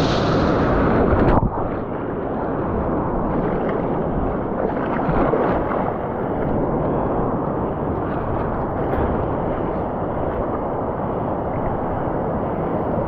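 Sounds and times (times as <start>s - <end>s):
surf and water: 0.0s - 13.0s
wind buffeting microphone: 0.0s - 13.0s.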